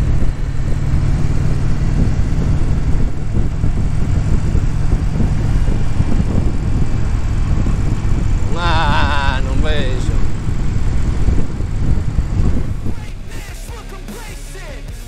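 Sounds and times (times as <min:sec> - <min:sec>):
wind noise on microphone: 0:00.0 - 0:14.0
motorcycle engine running: 0:00.0 - 0:15.0.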